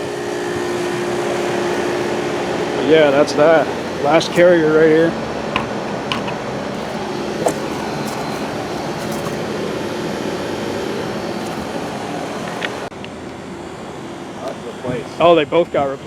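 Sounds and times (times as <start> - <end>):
heat pump fan and compressor hum: 0.0 - 16.0.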